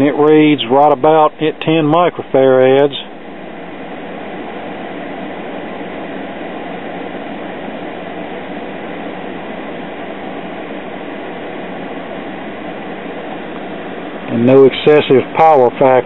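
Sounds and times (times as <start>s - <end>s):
steady rushing hiss: 0.0s - 16.0s.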